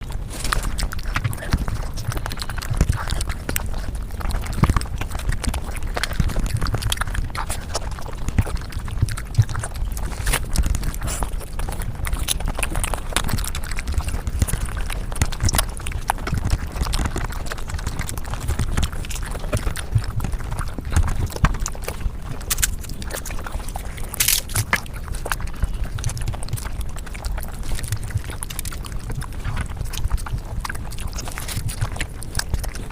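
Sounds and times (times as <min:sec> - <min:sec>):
sped-up chewing clicks: 0:00.0 - 0:32.9.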